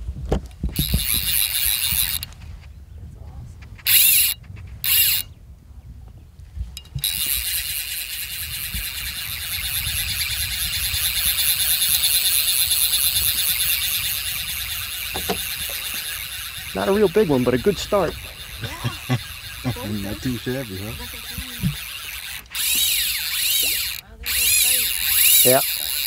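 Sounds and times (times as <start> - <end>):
fishing reel drag screaming: 0.8 - 2.3, 3.9 - 5.2, 7.0 - 26.0.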